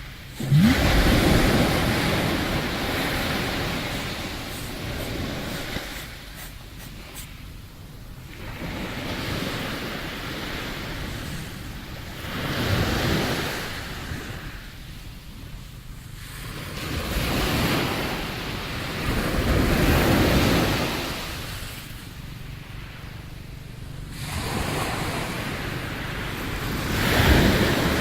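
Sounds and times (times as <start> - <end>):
sea waves breaking on beach: 0.0 - 28.0.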